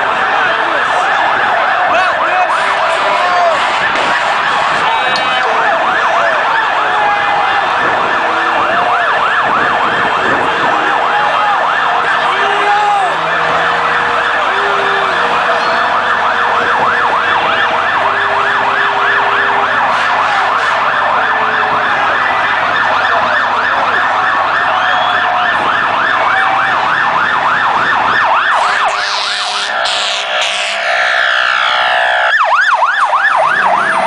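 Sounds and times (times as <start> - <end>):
emergency siren yelping: 0.0 - 34.0.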